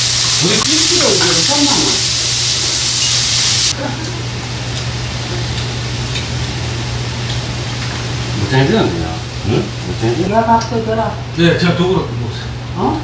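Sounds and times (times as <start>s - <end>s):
meat sizzling in a frying pan: 0.0s - 10.9s.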